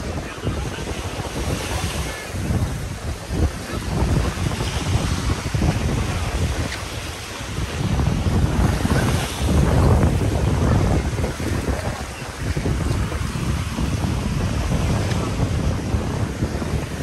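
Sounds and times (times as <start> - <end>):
surf on beach: 0.0 - 17.0
wind buffeting microphone: 0.0 - 17.0.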